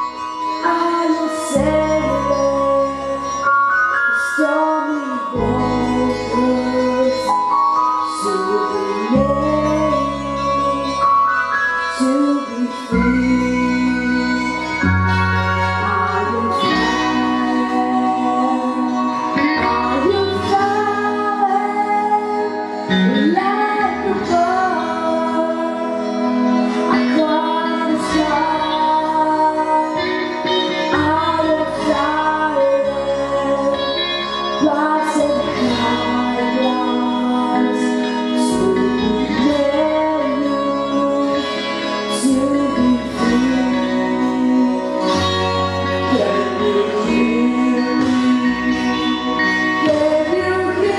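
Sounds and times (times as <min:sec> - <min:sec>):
instrumental accompaniment: 0:00.0 - 0:50.9
woman singing: 0:00.0 - 0:50.9.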